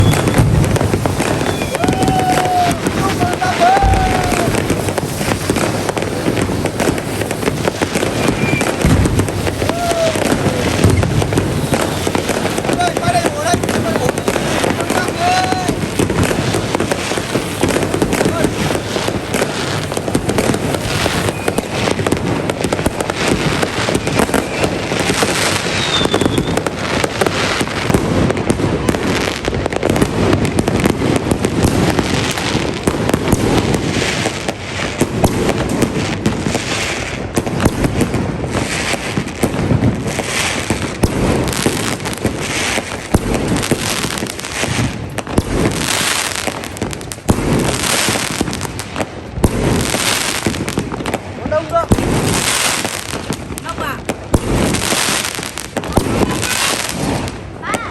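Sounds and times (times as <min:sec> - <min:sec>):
fireworks banging and crackling: 0:00.0 - 0:57.9.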